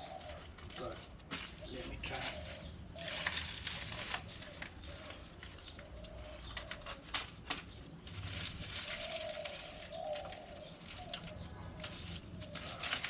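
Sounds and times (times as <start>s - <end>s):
bird calling: 0.0s - 7.7s, 8.7s - 13.0s.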